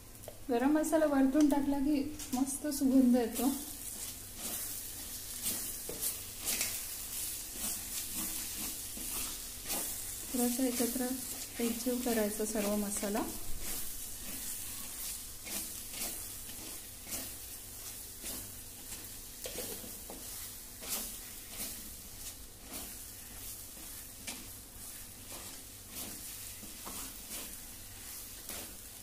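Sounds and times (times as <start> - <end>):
paste sizzling in oil: 2.2 - 29.0
wooden spatula scraping pot: 3.0 - 29.0.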